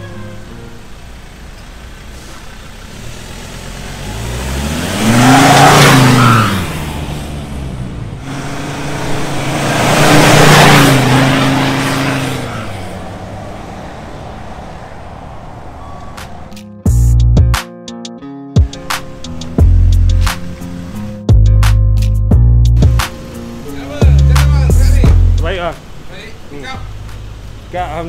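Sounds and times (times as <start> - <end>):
diesel engine accelerating: 0.0 - 17.6, 18.7 - 28.0.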